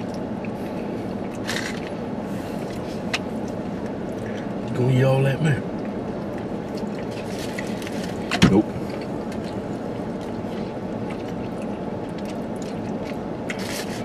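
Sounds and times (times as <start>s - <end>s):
car interior background noise: 0.0s - 14.0s.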